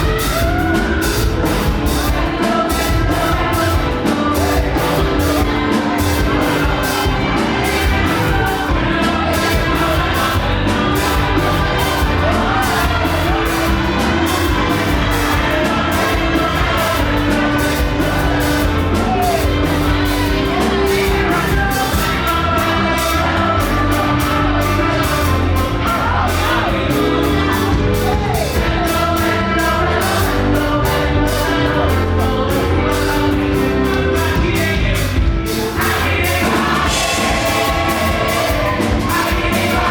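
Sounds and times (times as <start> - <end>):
band playing fast gospel music: 0.0 - 39.9
crowd singing along: 0.0 - 39.9.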